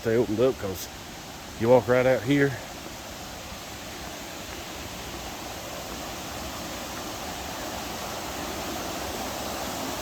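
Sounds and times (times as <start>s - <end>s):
mountain creek rushing: 0.0s - 10.0s.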